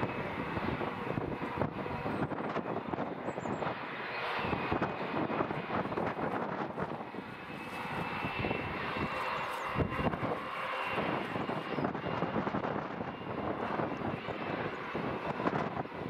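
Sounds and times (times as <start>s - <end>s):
jet engines at taxi power: 0.0s - 16.0s.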